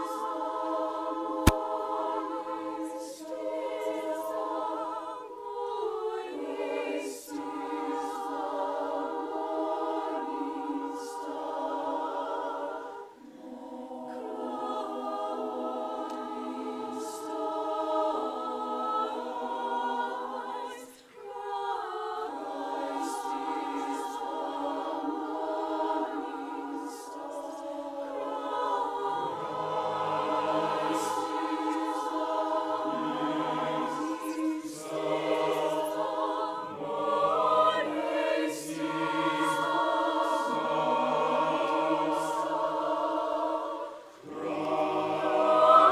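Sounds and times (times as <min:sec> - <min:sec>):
mixed choir singing: 0:00.0 - 0:45.9.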